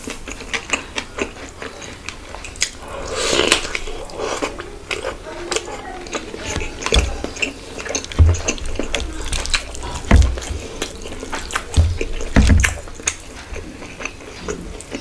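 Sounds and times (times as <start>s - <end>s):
person chewing with lip smacks: 0.0s - 15.0s.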